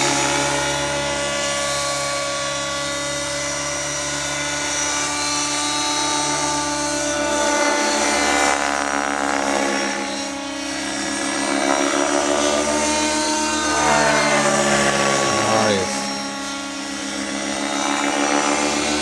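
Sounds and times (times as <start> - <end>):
model helicopter engine whine: 0.0 - 19.0.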